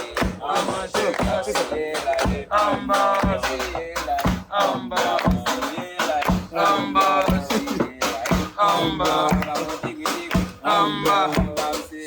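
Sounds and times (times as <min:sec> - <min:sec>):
voices singing: 0:00.0 - 0:12.0
wooden pestle pounding in mortar: 0:00.2 - 0:11.7.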